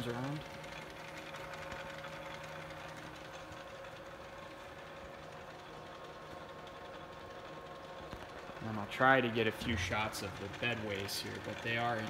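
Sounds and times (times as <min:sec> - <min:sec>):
belts and gears turning: 0:00.0 - 0:12.0
lathe motor humming: 0:00.0 - 0:12.0.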